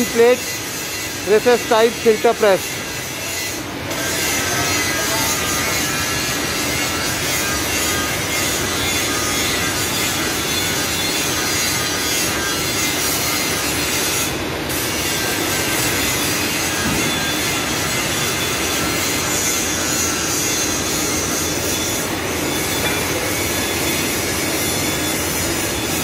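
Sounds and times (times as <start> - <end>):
workshop machinery noise: 0.0 - 26.0.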